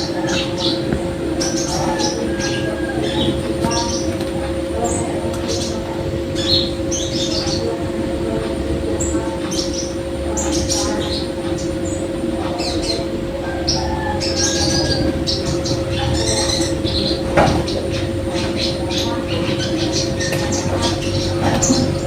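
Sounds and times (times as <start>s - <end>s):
loud low drone: 0.0s - 22.0s
songbird chirping and chattering: 0.0s - 22.0s.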